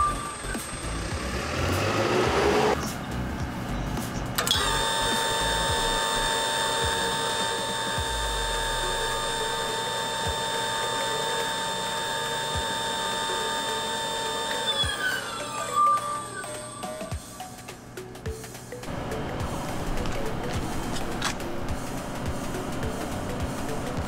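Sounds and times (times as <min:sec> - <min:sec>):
mixer motor high whine: 0:00.0 - 0:02.8, 0:04.3 - 0:17.4, 0:18.9 - 0:24.0.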